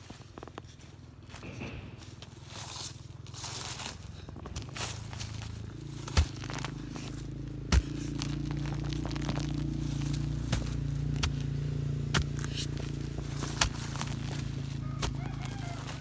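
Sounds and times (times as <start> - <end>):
dry leaves crackling: 0.0 - 16.0
steady low hum: 0.0 - 16.0
digging tool striking soil: 1.3 - 16.0.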